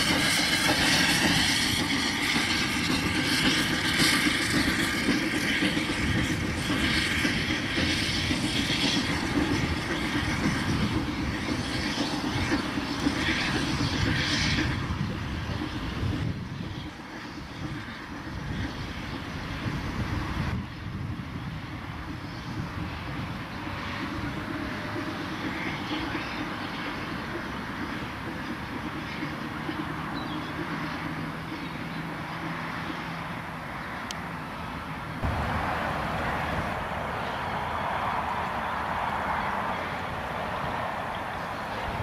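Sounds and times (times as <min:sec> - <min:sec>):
steam locomotive exhaust: 0:00.0 - 0:42.0.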